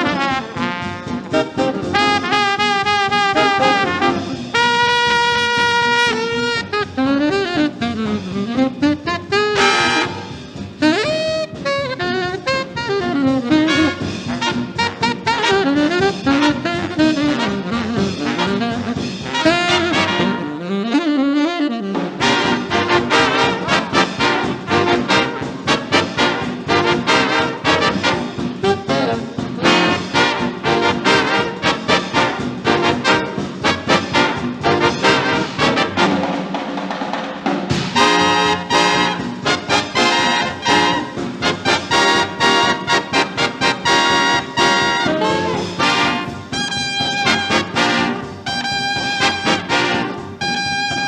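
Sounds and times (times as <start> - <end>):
swing jazz horn passage: 0.0 - 51.0.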